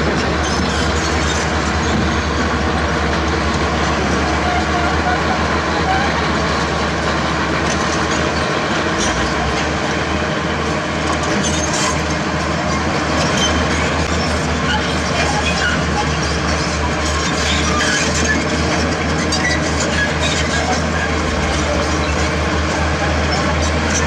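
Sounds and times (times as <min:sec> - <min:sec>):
diesel engine running under load: 0:00.0 - 0:24.0
steel crawler tracks clanking: 0:00.0 - 0:24.0.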